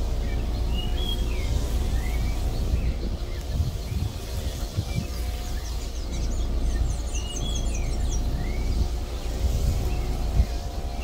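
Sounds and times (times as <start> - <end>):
birds chirping: 0.0 - 11.0
loud steady low hum: 0.0 - 11.0.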